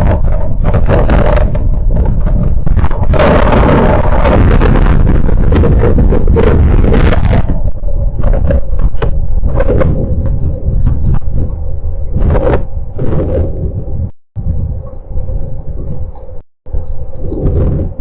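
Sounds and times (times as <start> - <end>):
wind and rain on microphone: 0.0 - 18.0.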